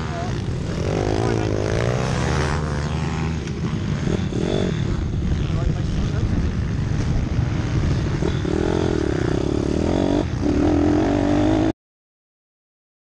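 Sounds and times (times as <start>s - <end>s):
minibike engine revving: 0.0s - 11.7s
wind on microphone: 0.0s - 11.7s.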